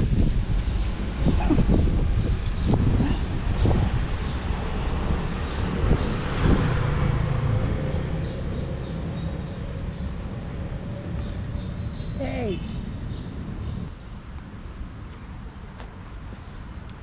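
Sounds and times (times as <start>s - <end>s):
vehicle passing with low rumble: 0.0s - 16.1s.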